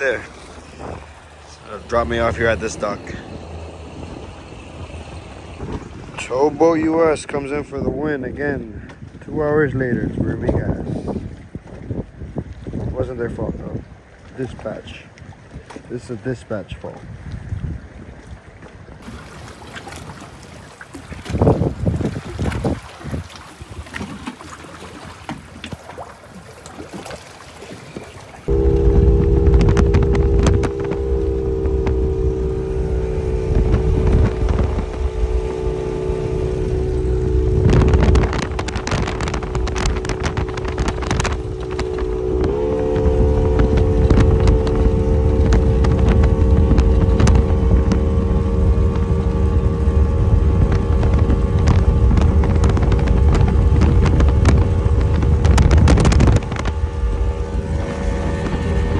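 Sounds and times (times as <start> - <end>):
outboard motor droning: 0.0 - 58.9
rush of wind and water: 0.0 - 58.9.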